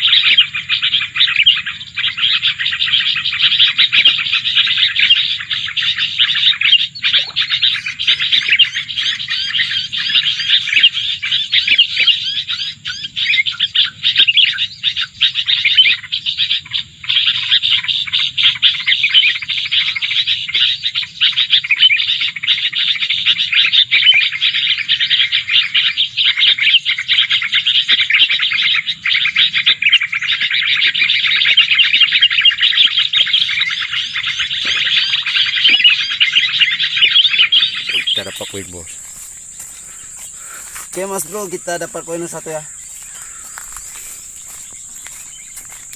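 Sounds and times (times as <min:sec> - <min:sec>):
small songbirds chirping and trilling: 0:00.0 - 0:45.9.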